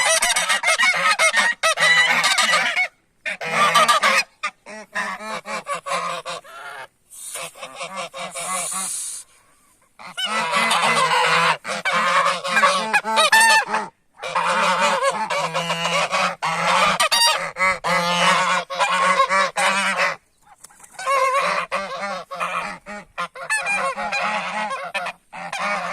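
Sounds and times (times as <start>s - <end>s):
geese honking: 0.0s - 25.9s.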